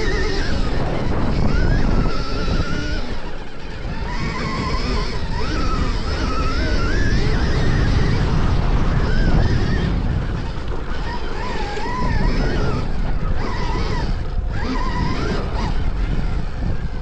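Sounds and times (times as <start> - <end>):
thin engine whine: 0.0 - 17.0
tyre and wind noise: 0.0 - 17.0.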